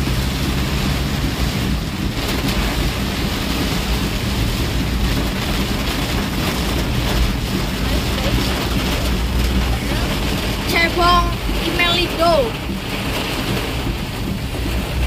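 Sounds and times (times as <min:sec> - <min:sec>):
bus engine hum: 0:00.0 - 0:15.0
heavy rain on bus: 0:00.0 - 0:15.0
wet road noise: 0:00.0 - 0:15.0.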